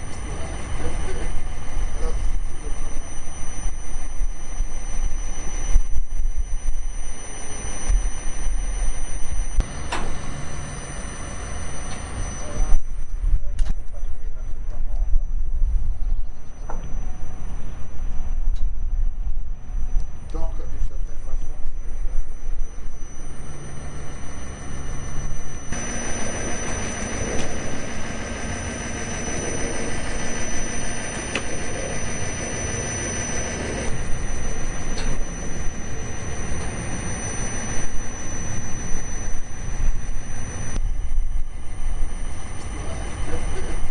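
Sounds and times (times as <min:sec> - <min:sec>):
mechanical rumble: 0:00.0 - 0:43.9
thin high whine: 0:00.0 - 0:43.9.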